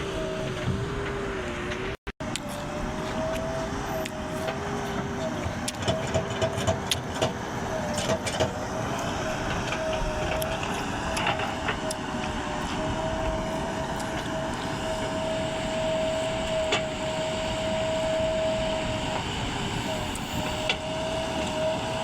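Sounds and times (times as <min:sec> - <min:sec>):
backhoe diesel engine whining: 0:00.0 - 0:22.0.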